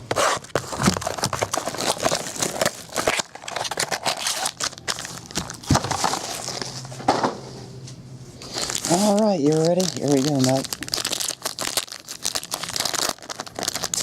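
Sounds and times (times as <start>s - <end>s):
card pack wrapper crinkling: 0.2s - 6.8s, 8.4s - 14.0s.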